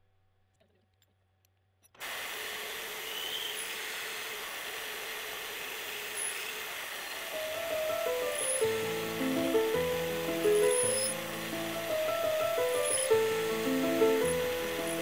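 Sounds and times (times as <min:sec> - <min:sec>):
milling machine cutting steel: 0:02.0 - 0:15.0.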